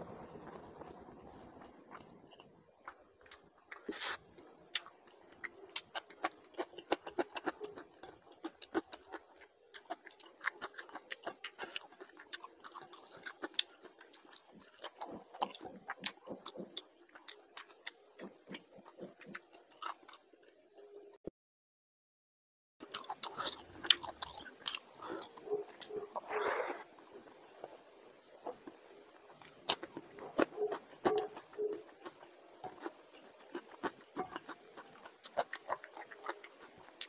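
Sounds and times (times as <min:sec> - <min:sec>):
person chewing food wetly: 0:00.0 - 0:20.5, 0:22.8 - 0:37.0.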